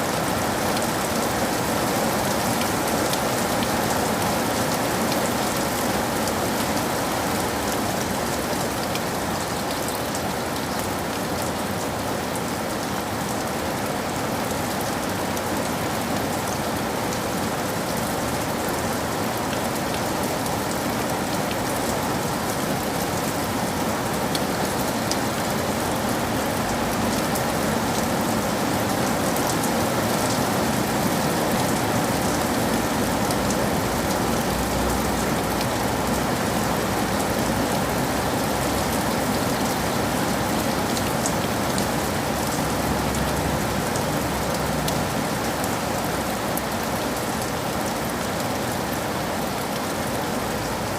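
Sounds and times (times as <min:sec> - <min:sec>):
rain falling: 0:00.0 - 0:50.9.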